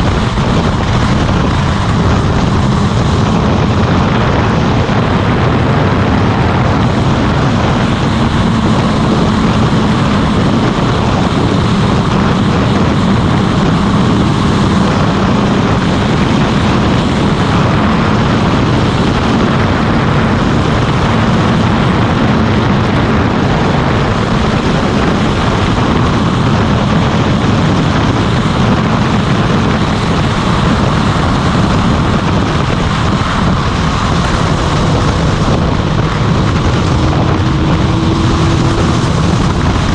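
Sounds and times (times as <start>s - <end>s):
motorcycle engine cruising: 0.0s - 39.9s
rushing road noise: 0.0s - 39.9s.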